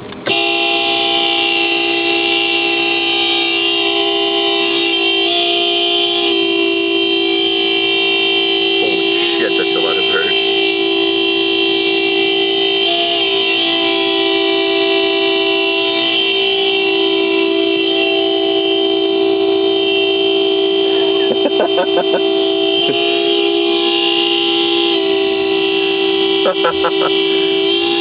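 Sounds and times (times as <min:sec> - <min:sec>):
vehicle horn two steady tones: 0:00.2 - 0:28.0.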